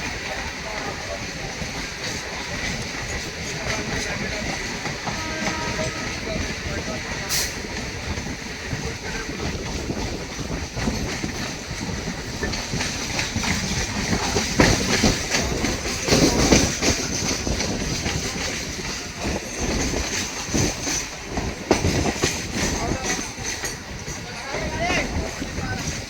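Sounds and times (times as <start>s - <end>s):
electric train running: 0.0s - 26.0s
wheels clattering over rail joints: 0.0s - 26.0s.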